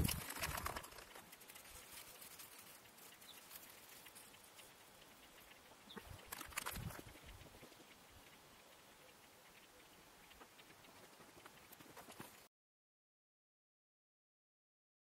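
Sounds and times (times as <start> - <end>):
faint outdoor hiss: 0.0 - 12.5.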